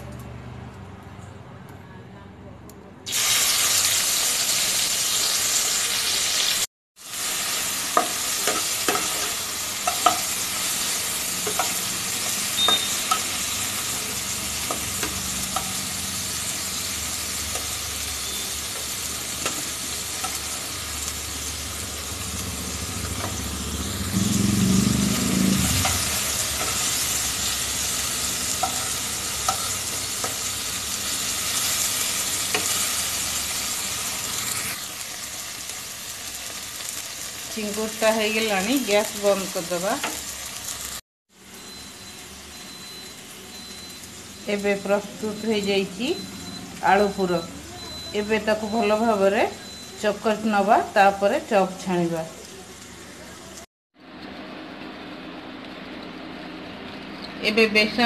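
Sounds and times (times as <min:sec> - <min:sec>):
prawns sizzling in hot oil: 0:03.1 - 0:58.0.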